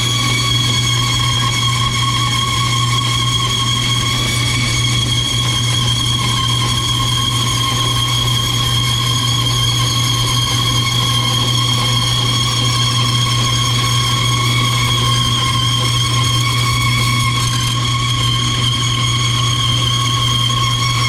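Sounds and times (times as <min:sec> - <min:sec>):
bandsaw motor hum: 0:00.0 - 0:21.0
blade whining in metal: 0:00.0 - 0:21.0.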